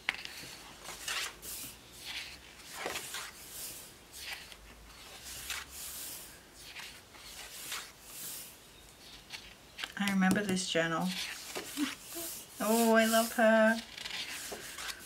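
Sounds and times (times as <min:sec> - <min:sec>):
paper pages turning: 0:00.0 - 0:15.0.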